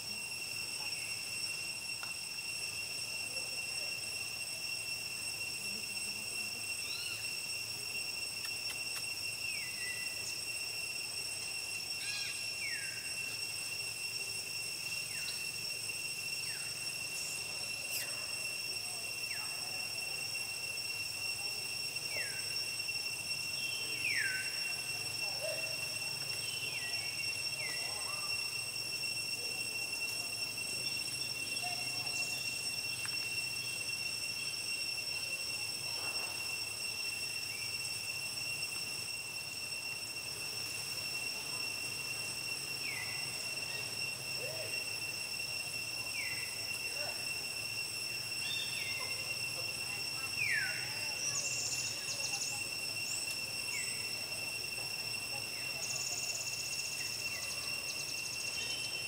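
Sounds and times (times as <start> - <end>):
crickets droning: 0.0 - 59.0.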